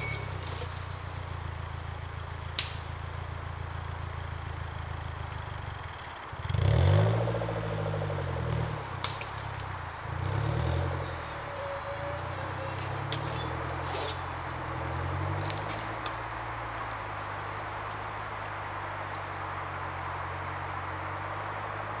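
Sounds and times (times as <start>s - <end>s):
car engine revving: 0.8s - 22.0s.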